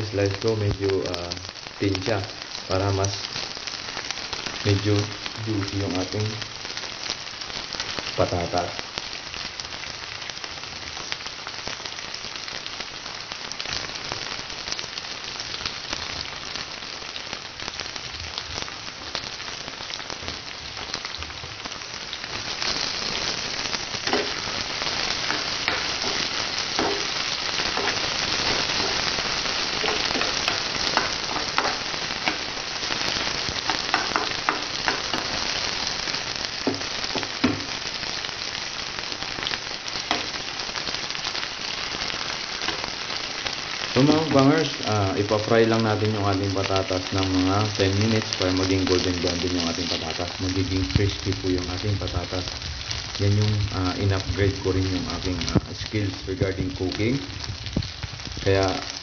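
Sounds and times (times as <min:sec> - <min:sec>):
potatoes frying in hot oil: 0:00.0 - 0:59.0.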